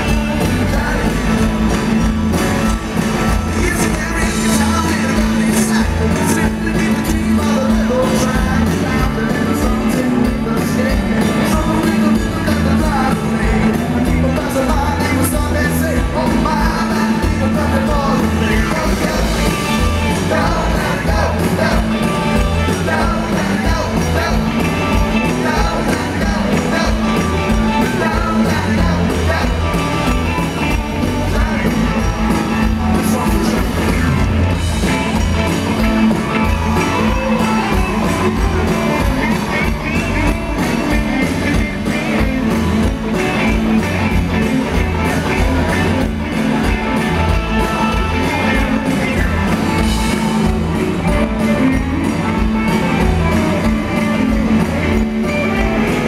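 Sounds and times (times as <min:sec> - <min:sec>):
live rock band playing: 0:00.0 - 0:56.0
man singing lead vocal: 0:00.0 - 0:56.0.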